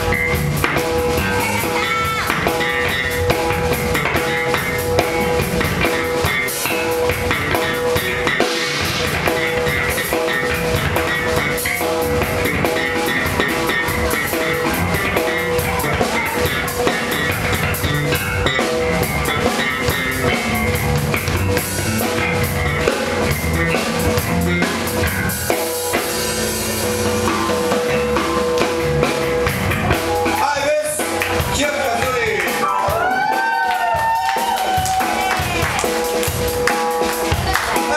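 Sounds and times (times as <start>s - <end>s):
drum kit kick and rimshots: 0.0s - 37.9s
funk band playing: 0.0s - 37.9s
guitar: 0.0s - 37.9s.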